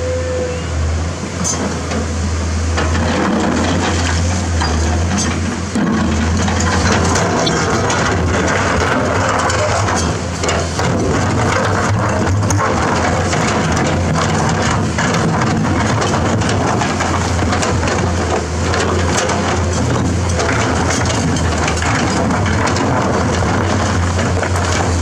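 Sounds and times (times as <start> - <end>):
diesel engine hum: 0.0 - 25.0
excavator bucket scraping gravel: 1.3 - 25.0
stones grinding and clattering: 2.9 - 25.0.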